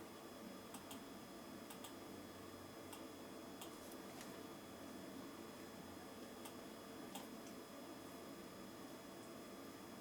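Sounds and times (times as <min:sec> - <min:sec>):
faint hiss and hum: 0:00.0 - 0:10.0.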